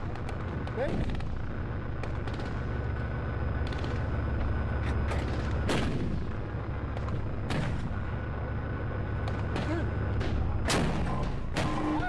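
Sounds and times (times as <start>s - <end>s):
tank engine idling: 0.0s - 12.0s
tank gun firing: 0.0s - 12.0s
thin steady whine: 0.0s - 12.0s.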